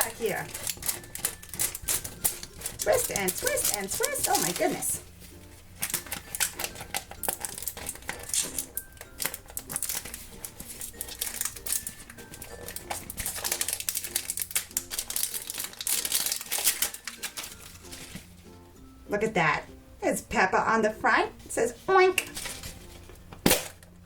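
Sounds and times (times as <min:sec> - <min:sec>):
plastic packaging crinkling: 0:00.0 - 0:18.5, 0:22.3 - 0:24.0
faint background music: 0:00.0 - 0:24.0.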